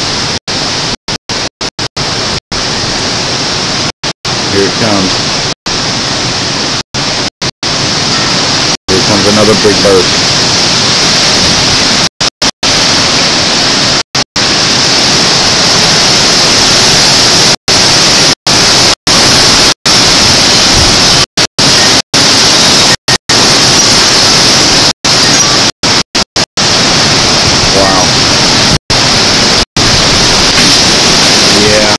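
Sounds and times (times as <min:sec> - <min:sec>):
strong wind on microphone: 0:02.0 - 0:25.7, 0:26.6 - 0:31.9.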